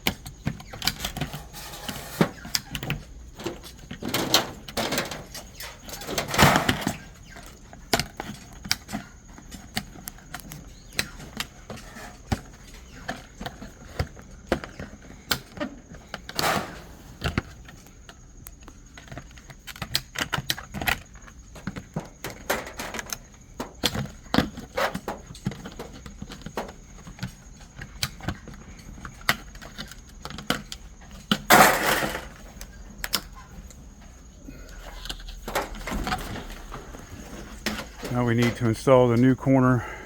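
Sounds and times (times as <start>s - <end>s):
small clicks and knocks of handling: 0.0s - 16.6s, 17.2s - 36.5s.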